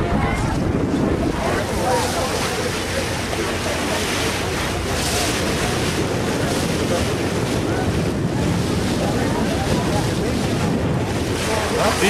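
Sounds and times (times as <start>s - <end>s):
water rushing past boat: 0.0s - 12.0s
wind buffeting microphone: 0.0s - 12.0s.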